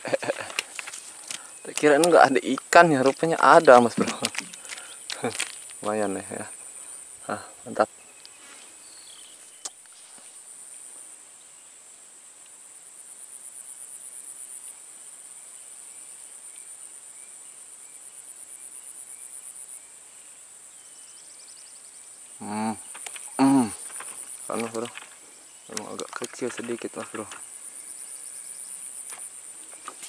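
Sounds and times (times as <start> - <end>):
high-pitched insect trill: 0.0 - 30.0.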